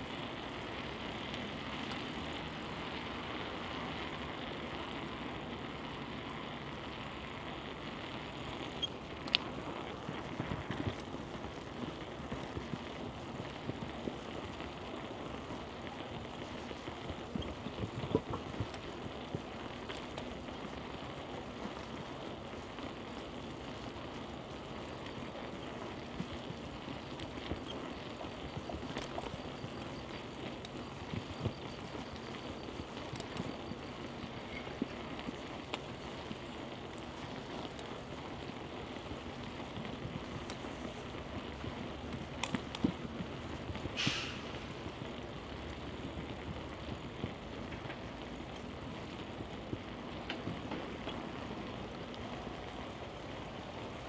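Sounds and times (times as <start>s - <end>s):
rolling road noise: 0.0s - 54.0s.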